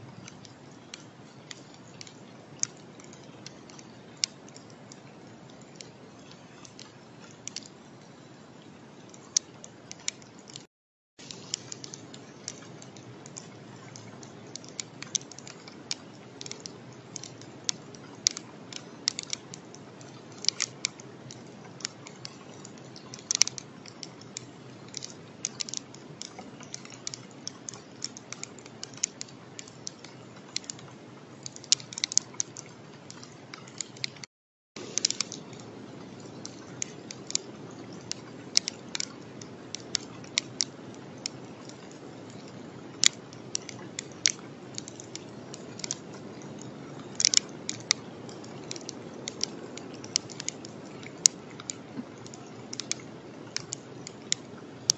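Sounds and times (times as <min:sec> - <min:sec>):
steady low hiss: 0:00.0 - 0:10.6, 0:11.2 - 0:54.9
rain drops ticking on camera: 0:00.0 - 0:54.9.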